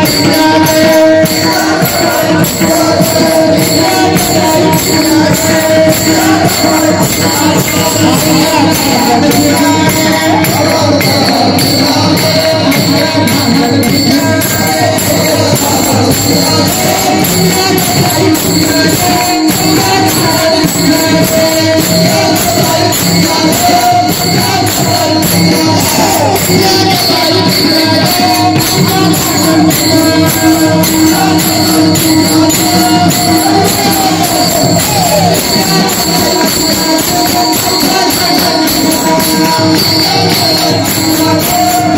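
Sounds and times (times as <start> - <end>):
jingling metal percussion: 0.0 - 41.9.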